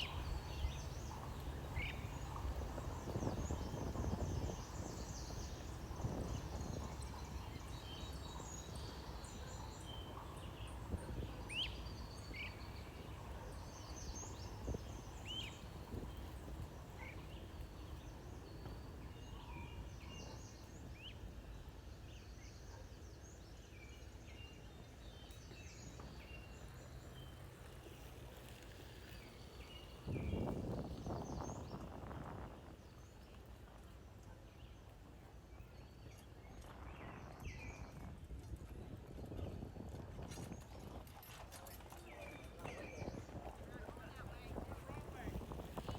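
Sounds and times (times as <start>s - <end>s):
small birds chirping: 0.0s - 38.2s.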